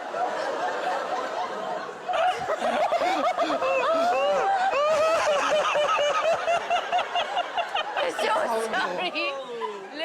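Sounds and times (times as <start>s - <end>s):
people laughing hard: 0.0s - 10.0s.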